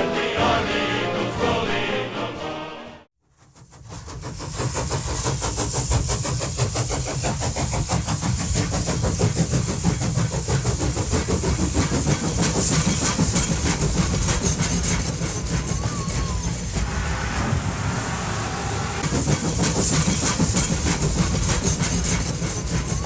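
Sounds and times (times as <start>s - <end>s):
model train running on track: 3.3s - 23.0s.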